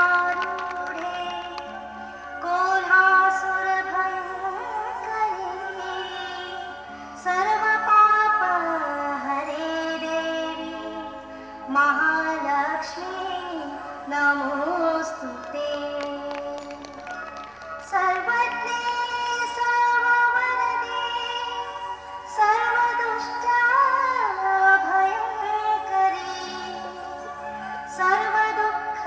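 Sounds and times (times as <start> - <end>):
woman singing: 0.0 - 17.1, 17.8 - 29.0.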